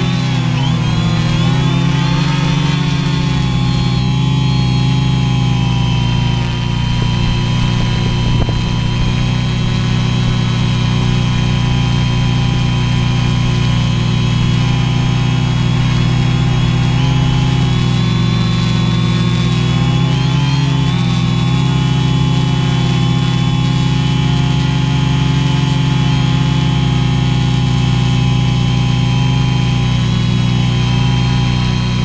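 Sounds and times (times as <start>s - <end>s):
drone motors humming and whining: 0.0s - 32.0s.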